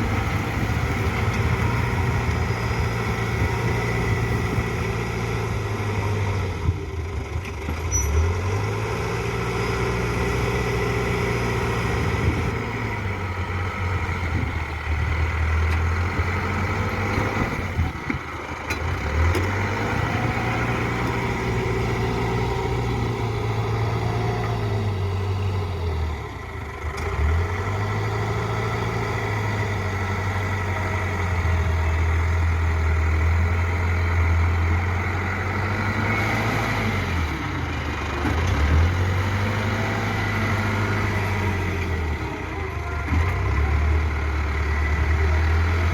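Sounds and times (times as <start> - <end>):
backhoe diesel engine revving: 0.0 - 45.9.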